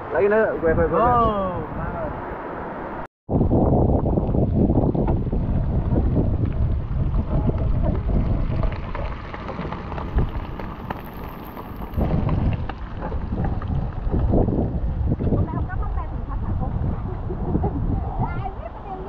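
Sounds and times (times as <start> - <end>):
wind buffeting microphone: 3.3 - 19.0.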